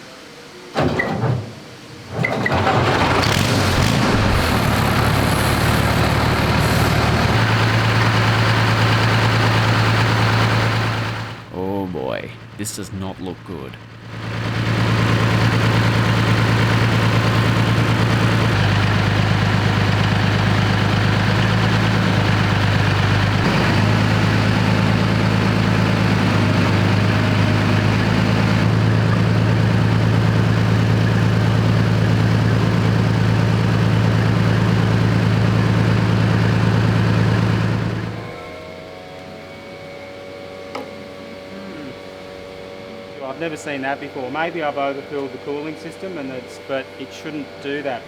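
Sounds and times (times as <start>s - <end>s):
diesel engine idling: 2.6s - 48.0s.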